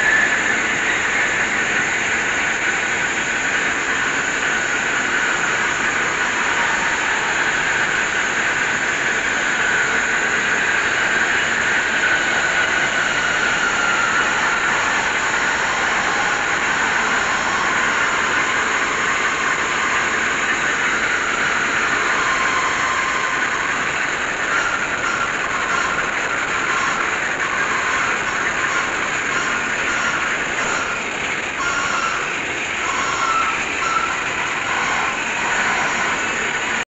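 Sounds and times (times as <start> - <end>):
lathe cutting metal with whine: 0.0 - 36.9.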